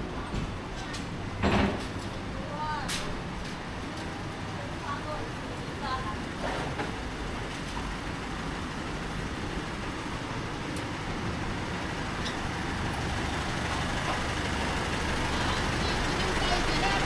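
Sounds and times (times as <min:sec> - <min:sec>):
heavy vehicle engine rumble: 0:00.0 - 0:17.0
street traffic: 0:00.0 - 0:17.0.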